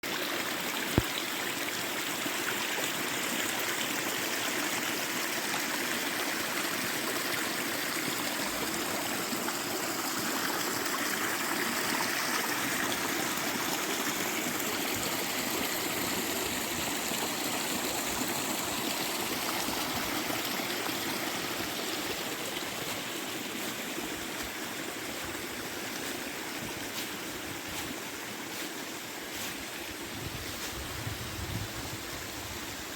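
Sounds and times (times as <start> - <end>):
stream flowing: 0.0 - 32.9.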